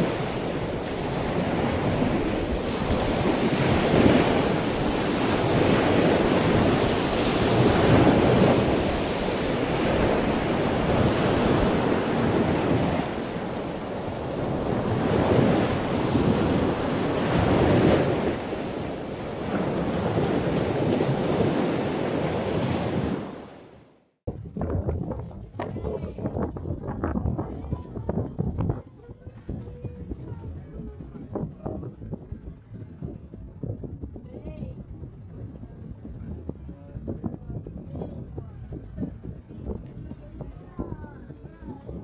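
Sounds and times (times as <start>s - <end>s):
wind buffeting microphone: 0.0s - 23.5s, 24.3s - 42.0s
choppy sea water splashing: 0.0s - 42.0s.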